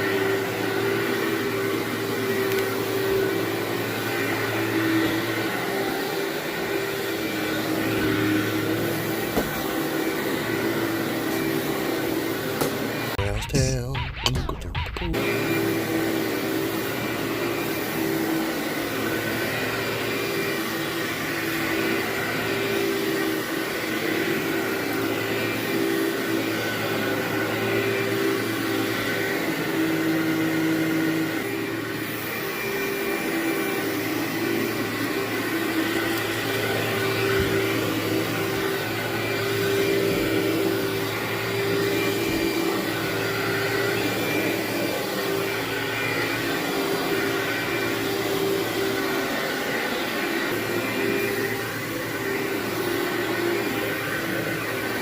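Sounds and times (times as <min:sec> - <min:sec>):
vacuum cleaner running: 0:00.0 - 0:13.2, 0:15.2 - 0:55.0.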